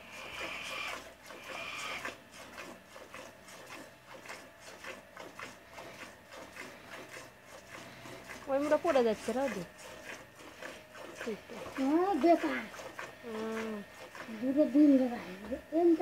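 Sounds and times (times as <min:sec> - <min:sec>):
milk squirting into metal pot: 0:00.0 - 0:15.4.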